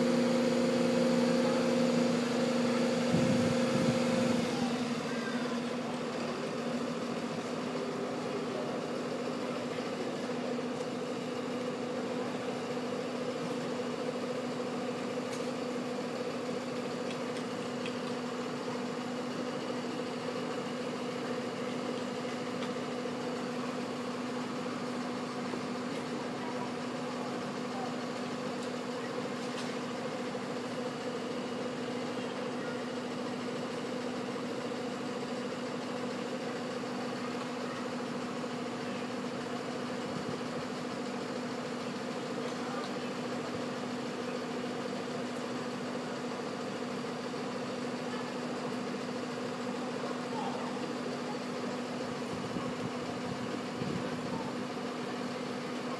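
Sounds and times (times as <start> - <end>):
fire engine idling: 0.0 - 55.9.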